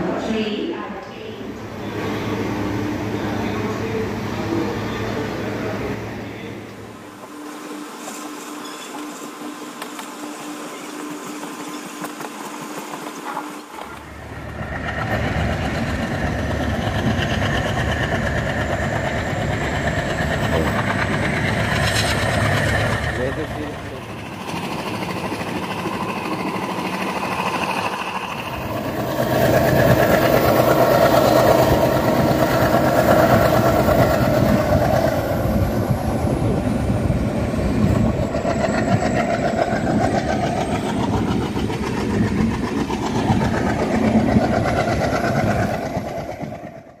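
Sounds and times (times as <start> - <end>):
train wheels rumbling on rails: 1.6 - 47.0
rushing wind: 9.2 - 47.0.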